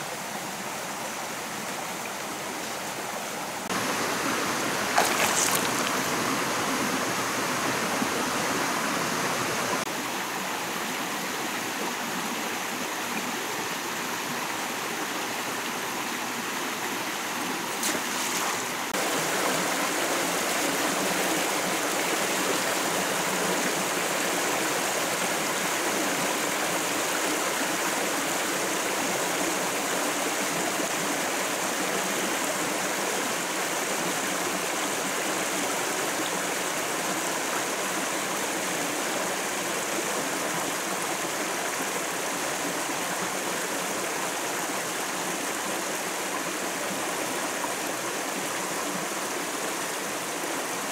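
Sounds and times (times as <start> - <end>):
stream rushing over stones: 0.0 - 50.9.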